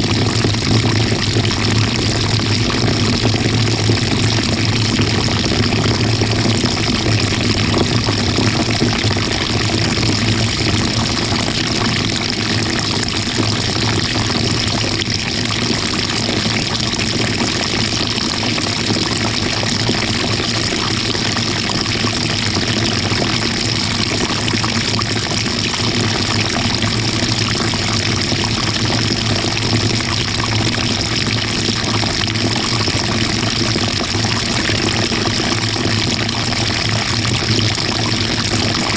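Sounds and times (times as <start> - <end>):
washing machine motor hum: 0.0 - 38.9
water sloshing in washing machine: 0.0 - 38.9.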